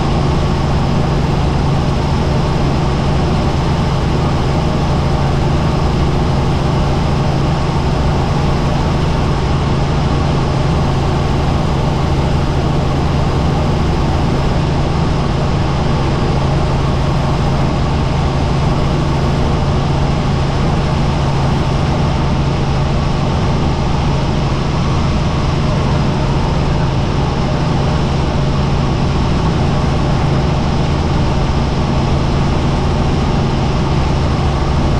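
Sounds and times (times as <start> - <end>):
helicopter cabin drone: 0.0 - 34.9.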